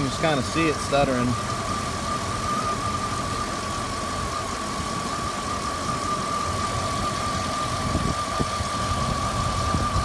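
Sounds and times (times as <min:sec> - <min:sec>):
car engine idling rough: 0:00.0 - 0:10.0.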